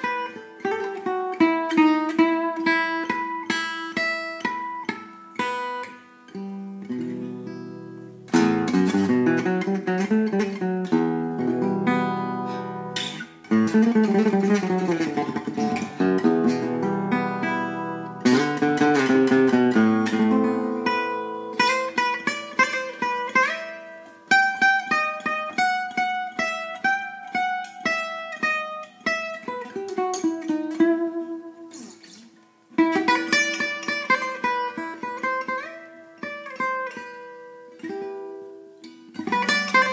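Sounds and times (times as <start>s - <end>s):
acoustic guitar improvisation: 0.0s - 39.9s.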